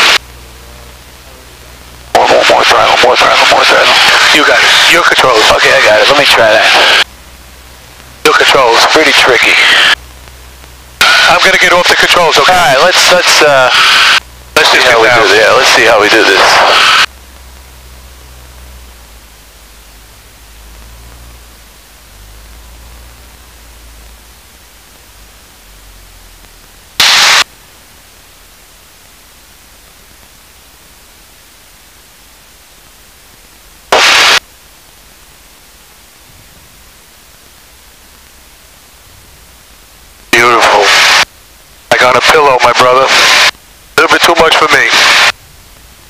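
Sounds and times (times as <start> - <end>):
headset static hiss: 0.0 - 46.0
loud static bursts: 0.0 - 46.0
faint low rumble: 5.0 - 11.6, 14.2 - 46.0.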